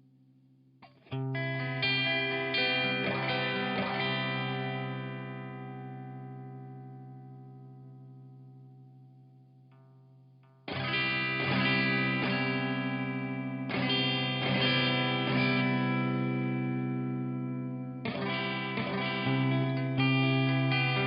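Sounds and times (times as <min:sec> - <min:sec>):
electric guitar chords ringing: 0:00.8 - 0:21.0.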